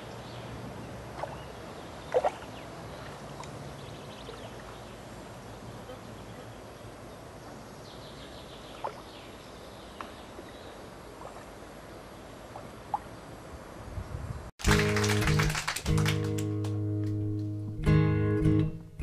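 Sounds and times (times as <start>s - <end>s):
water at a lake: 0.0s - 15.6s
wind: 0.0s - 17.7s.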